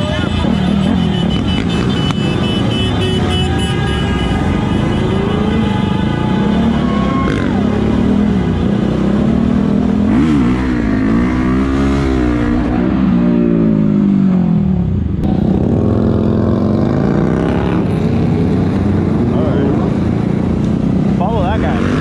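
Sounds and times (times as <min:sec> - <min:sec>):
motorcycle engine revving: 0:04.2 - 0:22.0.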